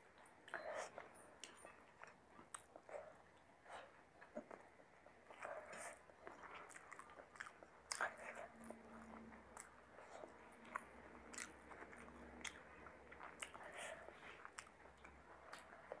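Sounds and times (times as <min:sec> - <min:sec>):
close chewing: 0:00.2 - 0:16.0.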